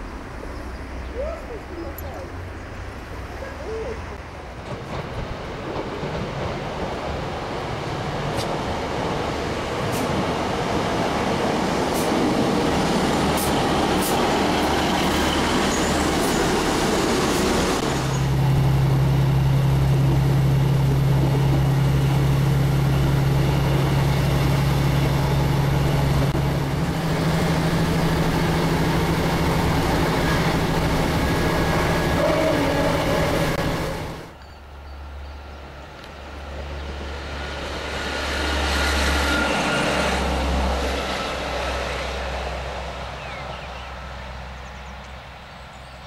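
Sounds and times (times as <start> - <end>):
train wheel and engine rush: 0.0 - 45.8.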